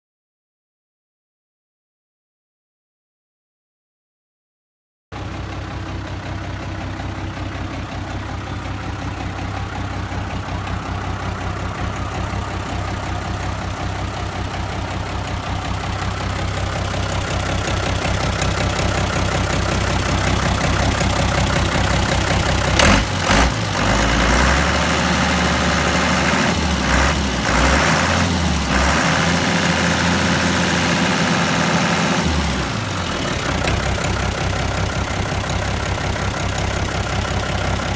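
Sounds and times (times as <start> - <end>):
diesel truck engine idling: 5.2 - 37.9.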